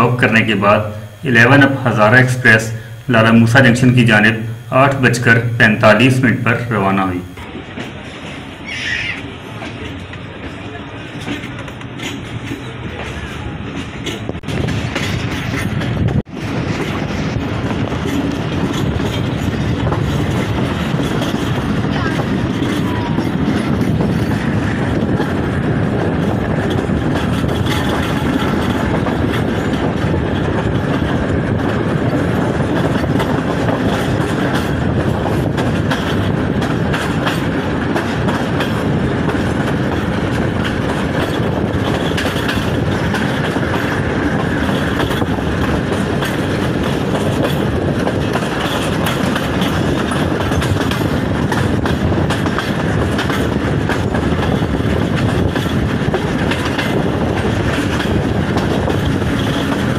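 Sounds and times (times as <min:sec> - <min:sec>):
train wheels rumbling: 0:00.0 - 0:59.9
wheels clicking over rails: 0:07.4 - 0:59.9.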